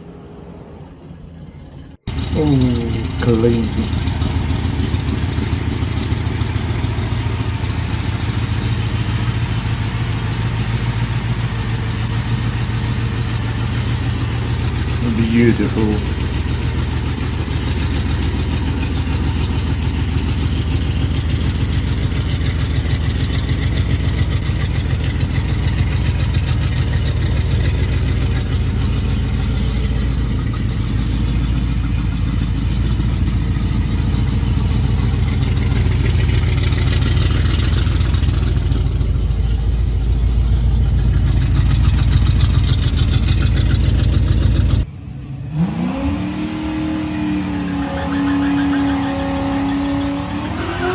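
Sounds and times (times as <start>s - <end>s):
car engine rumbling at low speed: 0.0s - 50.9s.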